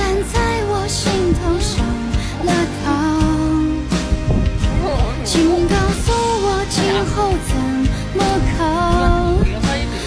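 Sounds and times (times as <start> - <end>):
person singing pop melody: 0.0 - 10.0
drum hits: 0.4 - 10.0.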